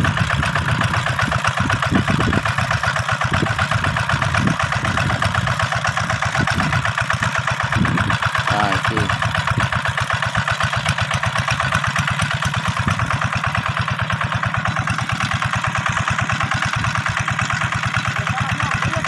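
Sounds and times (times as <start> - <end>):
single-cylinder diesel engine running: 0.0 - 19.0.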